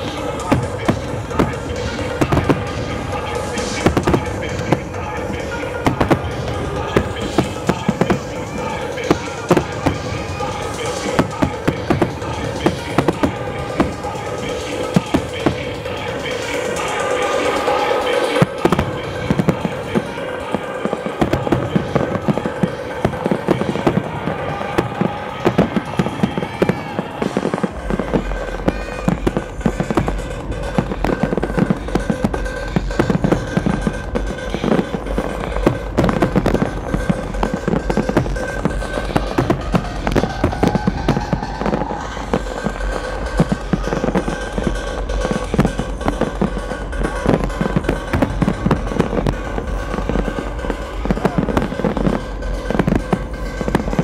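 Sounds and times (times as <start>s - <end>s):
fireworks bursting and crackling: 0.0s - 54.0s
music playing: 0.0s - 54.0s.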